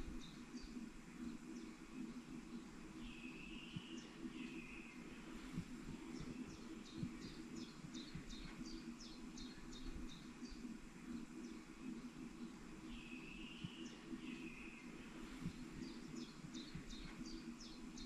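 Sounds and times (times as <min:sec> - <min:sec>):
low steady hum: 0:00.0 - 0:18.0
songbird singing: 0:00.0 - 0:18.0.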